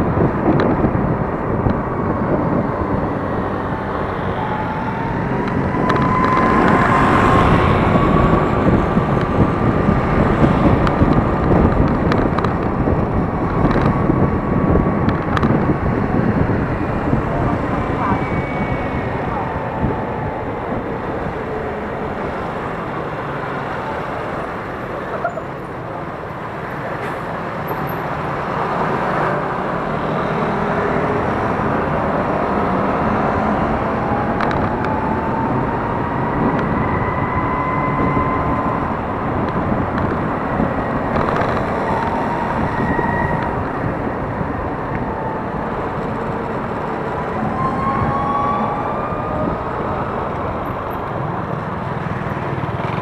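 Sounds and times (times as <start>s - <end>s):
traffic: 0.0s - 53.0s
wind noise: 0.0s - 53.0s.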